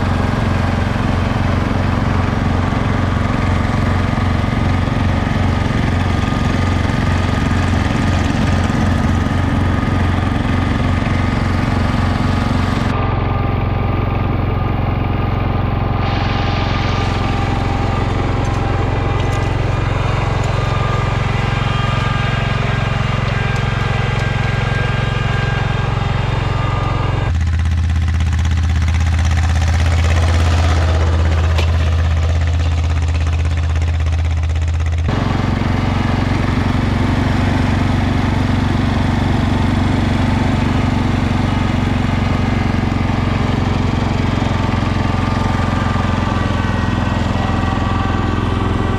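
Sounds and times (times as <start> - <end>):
engine with heavy low hum: 0.0 - 48.9
garden tractor engines running: 0.0 - 48.9.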